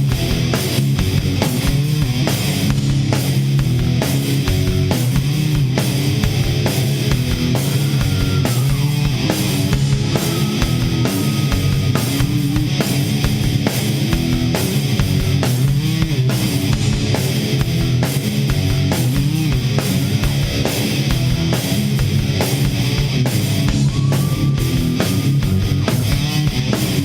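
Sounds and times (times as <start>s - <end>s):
bass guitar: 0.0s - 27.0s
drum kit beat: 0.0s - 27.0s
electric guitar: 0.0s - 27.0s.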